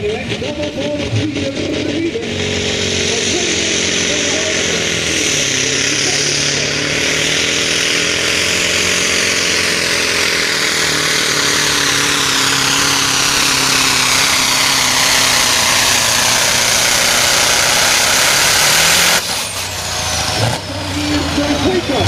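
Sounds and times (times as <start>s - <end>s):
diesel truck engine at full throttle: 0.0s - 22.0s.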